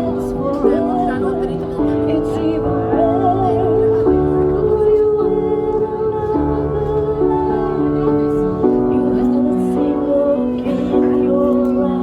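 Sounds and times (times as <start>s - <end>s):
keyboard chords: 0.0s - 12.0s
person singing: 0.0s - 12.0s.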